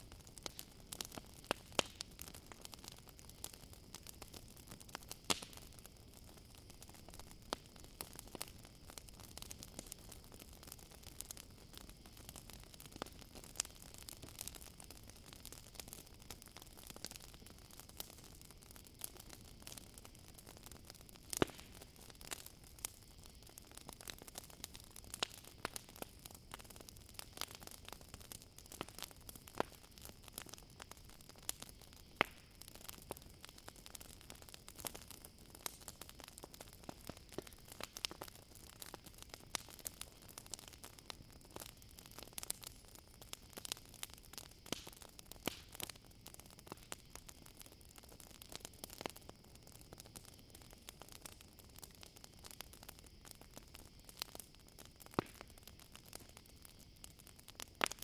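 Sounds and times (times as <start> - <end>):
campfire crackling and popping: 0.0 - 58.0
crickets trilling: 0.0 - 58.0.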